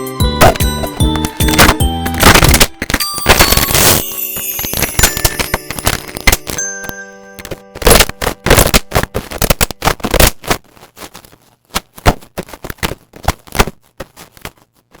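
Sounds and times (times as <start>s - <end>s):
slime popping and crackling: 0.4s - 15.0s.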